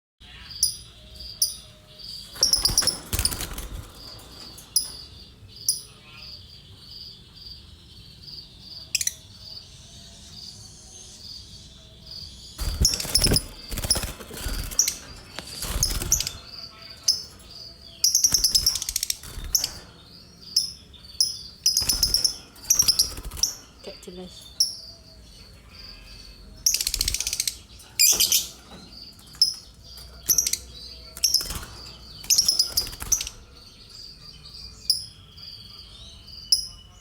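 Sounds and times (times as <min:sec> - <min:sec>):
lovebird chirping: 0:00.2 - 0:37.0.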